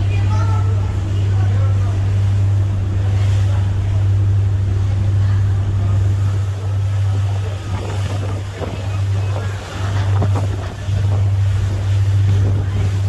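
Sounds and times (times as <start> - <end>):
boat engine droning: 0.0 - 13.0
water noise: 0.0 - 13.0
wind: 0.0 - 13.0.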